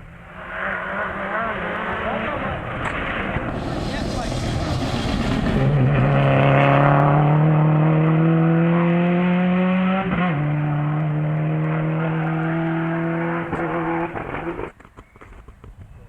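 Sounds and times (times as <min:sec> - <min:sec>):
rally car engine revving: 0:00.0 - 0:14.7.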